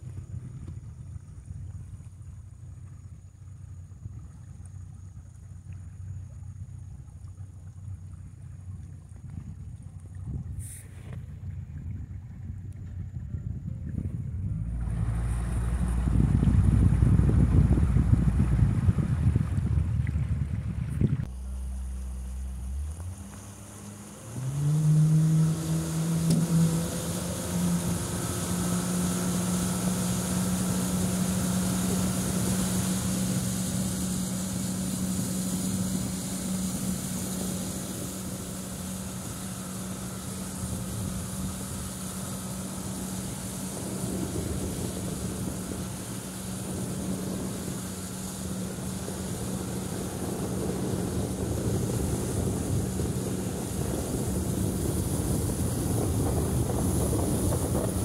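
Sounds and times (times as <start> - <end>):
outboard motor droning: 0.0 - 58.0
wind and water hiss: 0.0 - 58.0.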